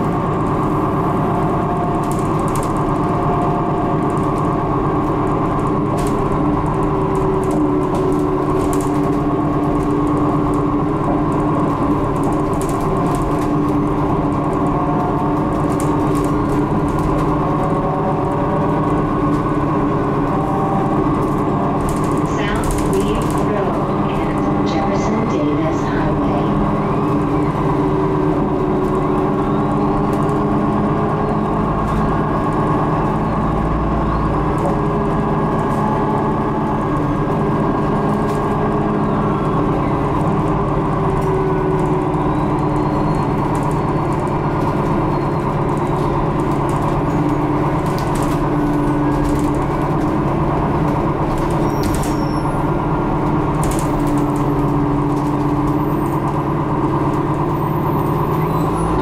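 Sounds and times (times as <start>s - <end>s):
bus engine drone: 0.0s - 59.0s
road noise: 0.0s - 59.0s.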